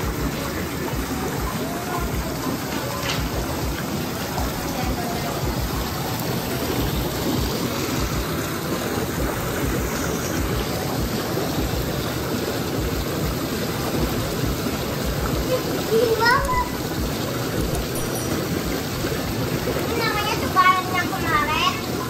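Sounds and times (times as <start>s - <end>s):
bathtub jets churning water: 0.0s - 22.0s
tap pouring into tub: 0.0s - 22.0s.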